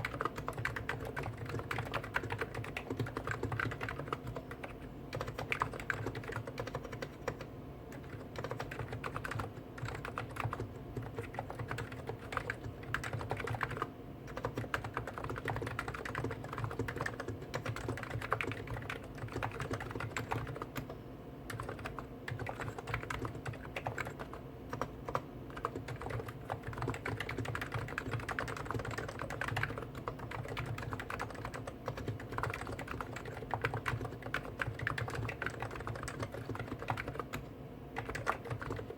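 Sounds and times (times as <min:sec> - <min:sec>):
soft keyboard keystrokes clattering: 0:00.0 - 0:38.9.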